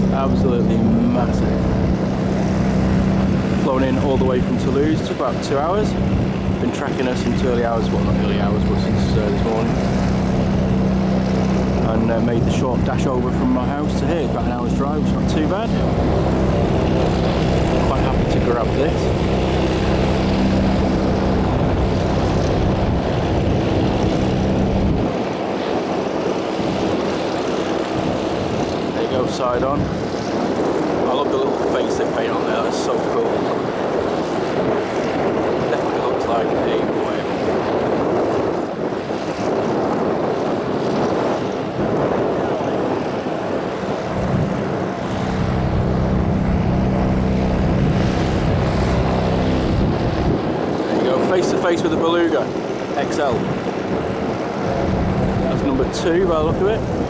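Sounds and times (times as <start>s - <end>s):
deep rumble: 0.0s - 38.0s, 40.6s - 57.0s
jet engines rushing: 0.0s - 57.0s
wind buffeting microphone: 0.0s - 57.0s.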